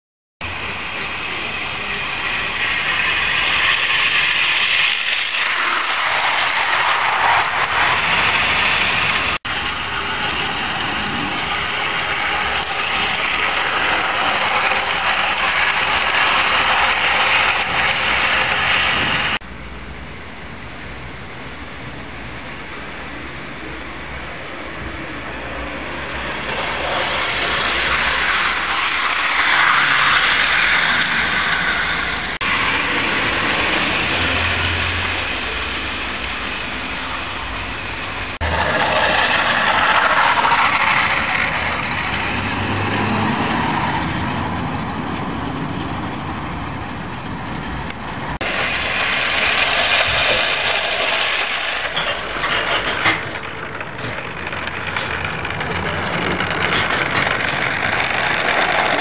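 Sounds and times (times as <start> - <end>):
model train motors whirring: 0.5 - 19.4, 24.7 - 44.9, 47.9 - 59.0.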